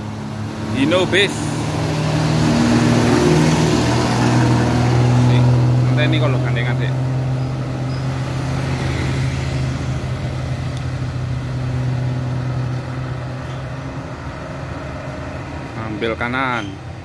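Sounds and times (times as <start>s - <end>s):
motorcycle passing: 0.0s - 16.3s
bus diesel engine droning: 0.0s - 17.0s.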